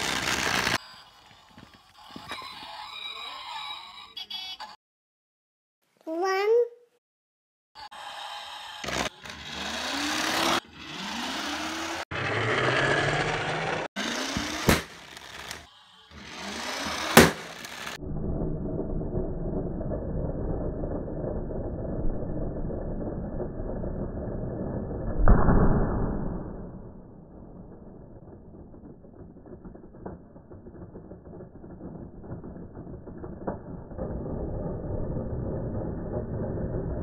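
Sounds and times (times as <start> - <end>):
toy car rolling on wooden floor: 0.0 - 4.5, 7.9 - 25.1, 27.5 - 37.0.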